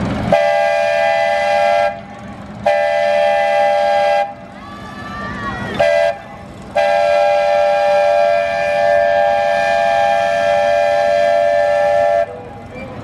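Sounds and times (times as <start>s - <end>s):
train horn blowing: 0.3s - 4.4s, 5.8s - 12.5s.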